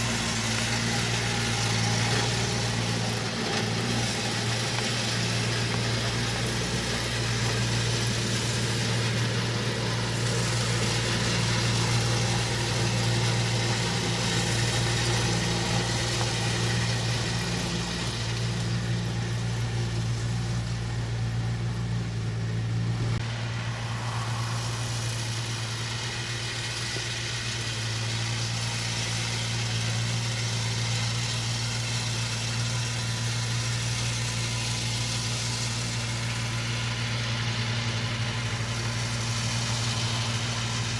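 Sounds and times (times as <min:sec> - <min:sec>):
machine engine humming: 0:00.0 - 0:40.9.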